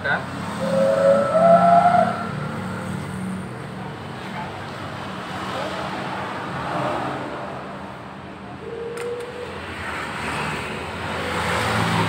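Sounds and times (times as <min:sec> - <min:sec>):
traffic hum: 0:00.0 - 0:12.0
vehicle engine: 0:00.0 - 0:12.0.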